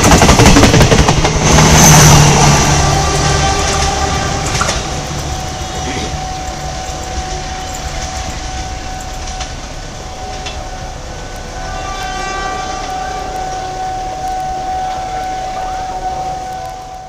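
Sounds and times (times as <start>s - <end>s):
train rumbling on rails: 0.0s - 17.0s
distant train horn: 1.4s - 17.0s.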